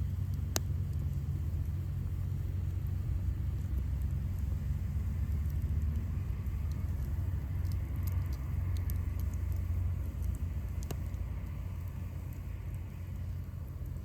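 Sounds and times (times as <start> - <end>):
campfire crackling and popping: 0.0 - 14.0
low rumble: 0.0 - 14.0.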